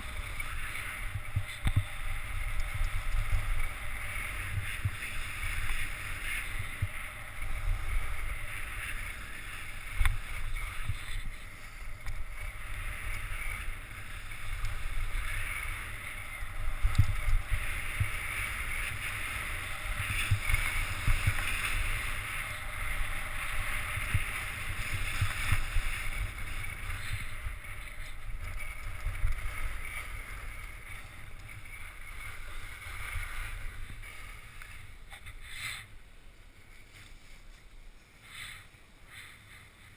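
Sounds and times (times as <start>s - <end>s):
wind rumble on microphone: 0.0s - 38.0s
ski edges scraping on snow: 0.0s - 39.9s.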